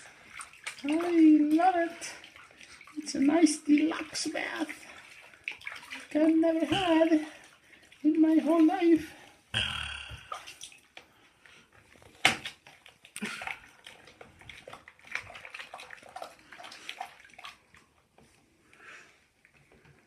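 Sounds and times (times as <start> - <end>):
water sloshing in plastic bucket: 0.0 - 9.5, 10.2 - 18.5.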